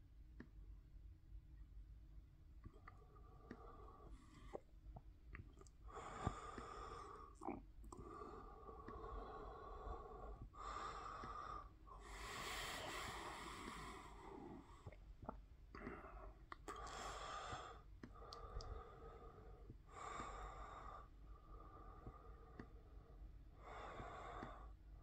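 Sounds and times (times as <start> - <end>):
slow breathing: 2.8 - 4.7, 5.9 - 25.0.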